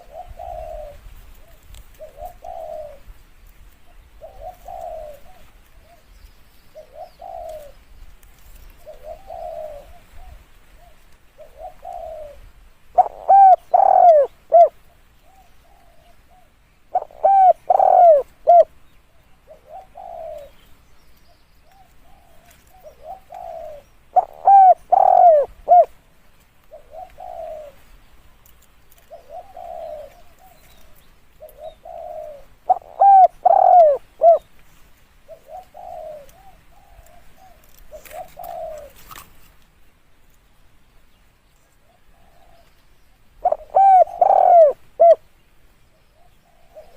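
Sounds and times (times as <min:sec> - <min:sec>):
dove cooing: 0:00.0 - 0:03.1, 0:03.8 - 0:07.9, 0:08.8 - 0:20.6, 0:21.6 - 0:26.0, 0:26.6 - 0:28.0, 0:29.0 - 0:34.5, 0:35.2 - 0:39.2, 0:41.8 - 0:42.8, 0:43.4 - 0:45.3, 0:46.1 - 0:46.9.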